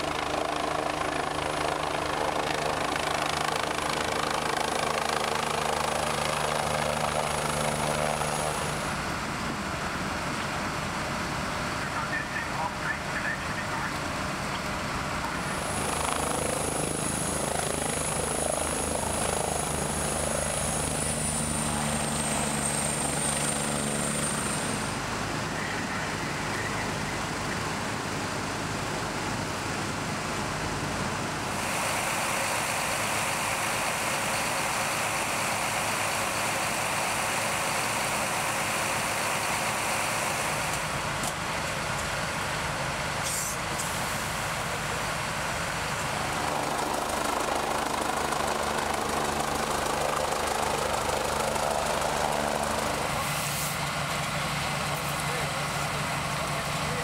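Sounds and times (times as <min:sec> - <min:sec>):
heavy engine drone: 0:00.0 - 0:57.0
high engine whine: 0:00.0 - 0:57.0.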